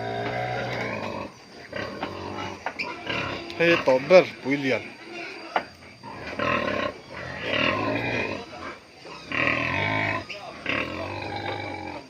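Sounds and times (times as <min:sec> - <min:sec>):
pig grunting: 0:00.0 - 0:05.4, 0:06.0 - 0:12.0.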